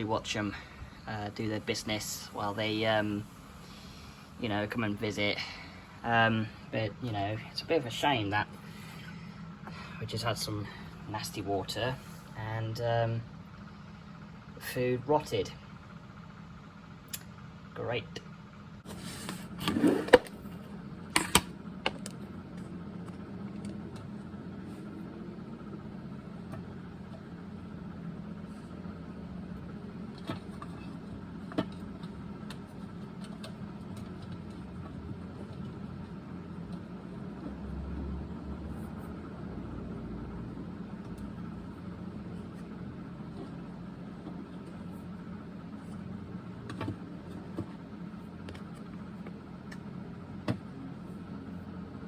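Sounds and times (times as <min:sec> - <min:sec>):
low mechanical hum: 0:00.0 - 0:52.0.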